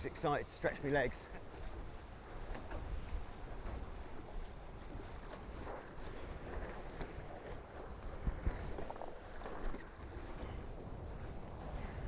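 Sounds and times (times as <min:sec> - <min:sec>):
water rushing along hulls: 0:00.0 - 0:12.0
wind buffeting microphone: 0:01.5 - 0:12.0.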